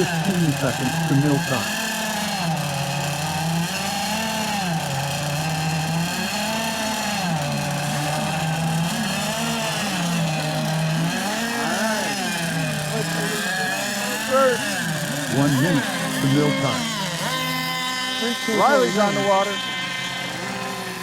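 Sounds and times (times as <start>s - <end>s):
model boat engines: 0.0s - 21.0s.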